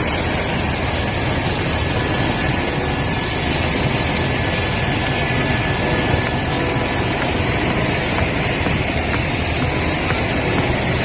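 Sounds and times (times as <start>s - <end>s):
faint high whine: 0.0s - 11.0s
helicopter engine and rotor noise: 0.0s - 11.0s.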